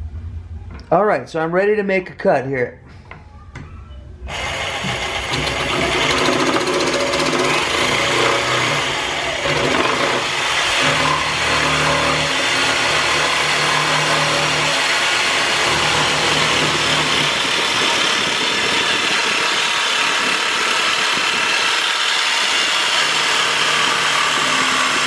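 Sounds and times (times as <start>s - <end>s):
electric jigsaw cutting wood: 4.3s - 25.0s.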